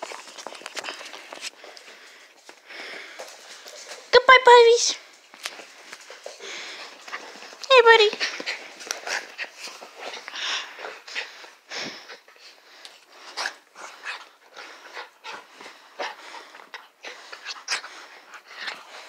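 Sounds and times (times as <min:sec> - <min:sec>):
puppies snuffling and breathing: 0:00.0 - 0:19.0.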